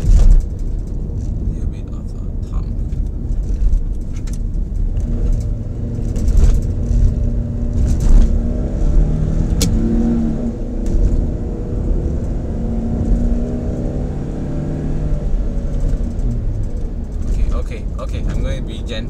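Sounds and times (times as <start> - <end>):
car engine revving under acceleration: 0.0 - 19.0.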